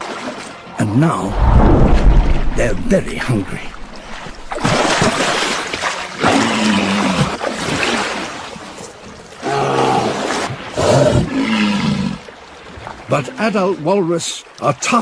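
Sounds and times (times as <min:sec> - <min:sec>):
rushing splashing water: 0:00.0 - 0:15.0.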